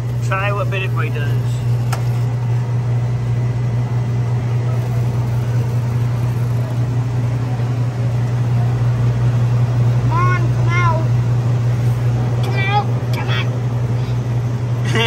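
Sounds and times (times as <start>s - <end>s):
ice cream machine humming: 0.0s - 15.0s.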